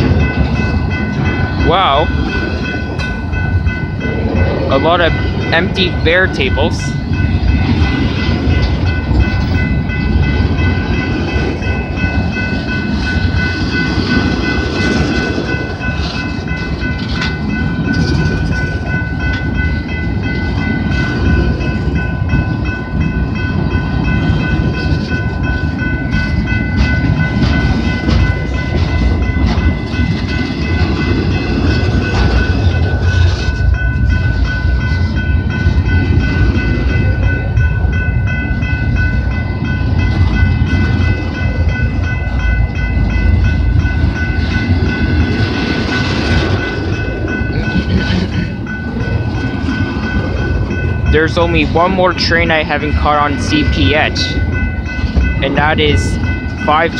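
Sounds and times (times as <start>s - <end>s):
high ringing tone: 0.0s - 56.9s
train wheels rumbling on rails: 0.0s - 56.9s.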